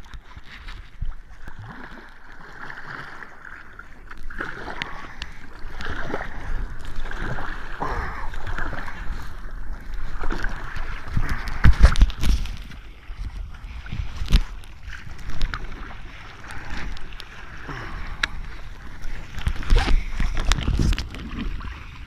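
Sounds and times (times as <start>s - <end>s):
water splashing against kayak: 0.0s - 22.0s.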